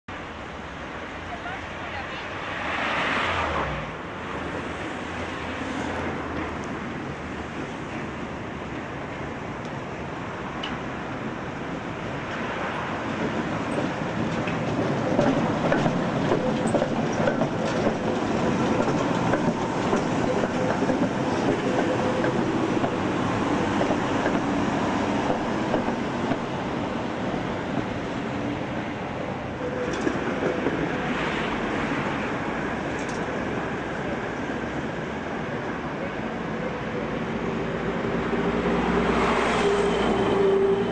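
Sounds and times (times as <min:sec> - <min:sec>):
tram wheels rumbling on rails: 0:00.6 - 0:40.9.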